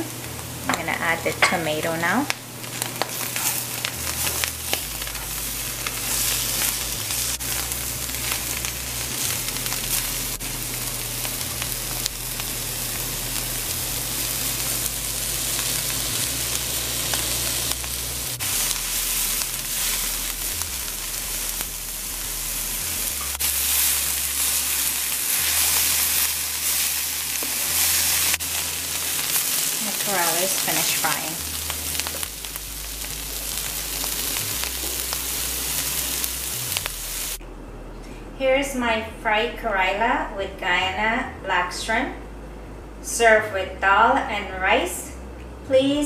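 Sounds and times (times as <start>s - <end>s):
food sizzling in hot oil: 0.0s - 37.4s.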